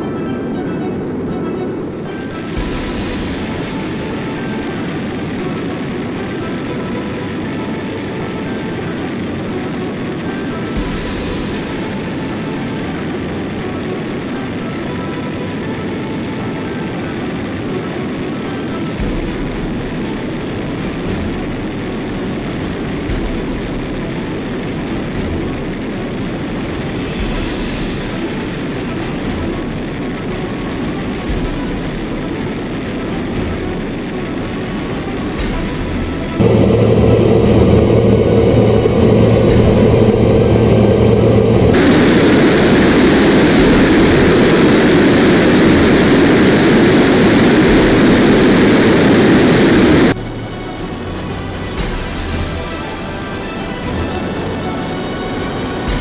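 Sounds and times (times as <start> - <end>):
jet engine roar: 0.0 - 56.0
steady low hum: 1.1 - 56.0.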